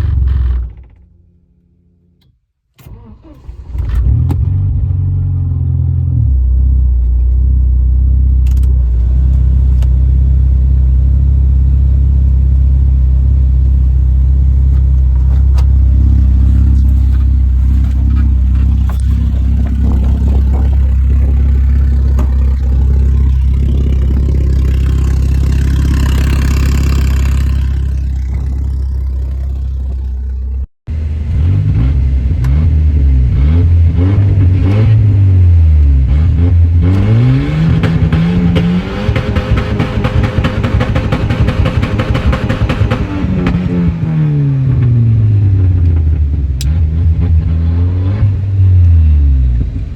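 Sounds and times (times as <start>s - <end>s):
car engine running: 0.0s - 1.4s, 3.6s - 49.9s.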